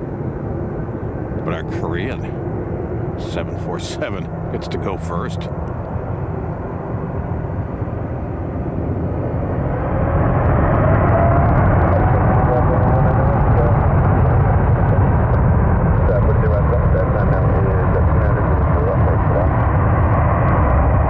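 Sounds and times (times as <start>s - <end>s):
faint engine whine: 0.0s - 21.0s
jet engines rumbling: 0.0s - 21.0s.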